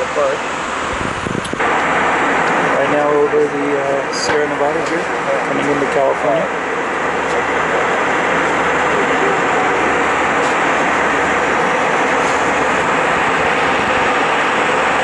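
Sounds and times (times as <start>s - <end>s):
airplane cabin noise: 0.0s - 15.0s.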